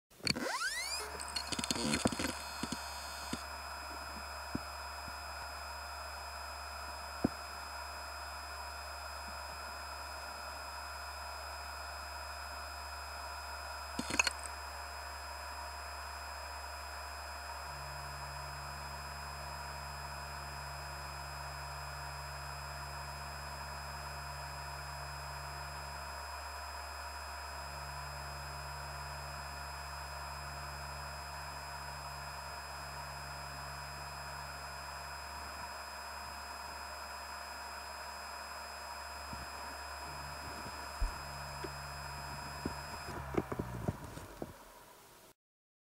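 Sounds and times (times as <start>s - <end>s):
hard drive spinning hum: 0.1s - 45.3s.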